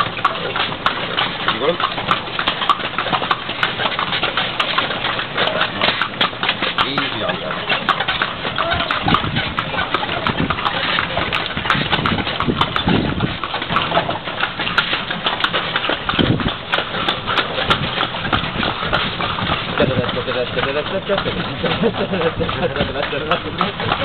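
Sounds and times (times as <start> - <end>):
carriage running noise: 0.0 - 24.0
hooves clip-clopping on pavement: 0.0 - 24.0.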